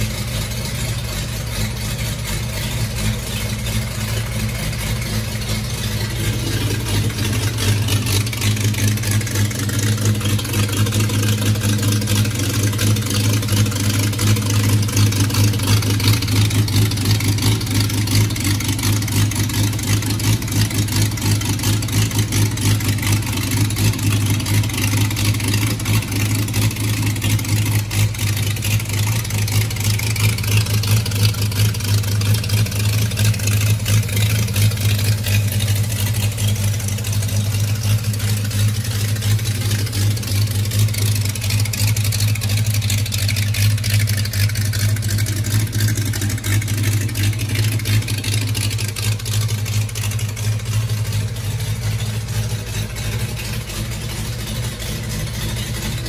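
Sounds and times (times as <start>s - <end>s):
six-cylinder engine running steadily: 0.0s - 56.0s.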